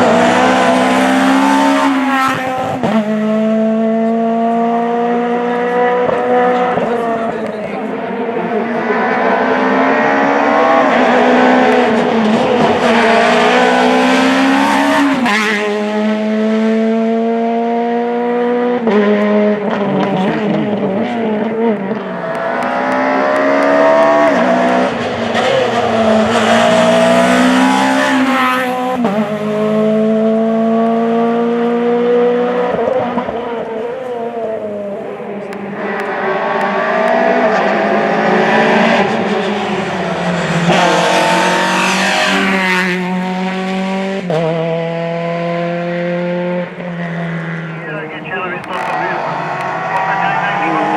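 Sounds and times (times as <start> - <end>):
rally car engine accelerating: 0.0 - 50.9.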